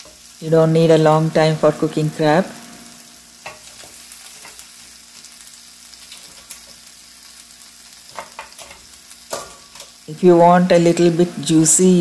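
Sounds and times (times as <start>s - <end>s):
crab sizzling on a griddle: 0.0s - 12.0s.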